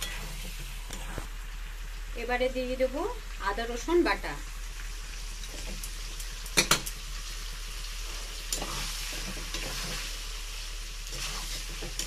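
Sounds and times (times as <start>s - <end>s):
curry sizzling in oil: 0.0s - 12.0s.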